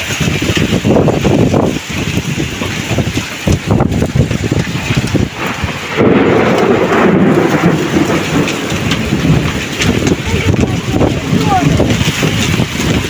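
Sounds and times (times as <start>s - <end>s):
heavy rain pouring: 0.0s - 13.0s
low rumble: 0.6s - 13.0s.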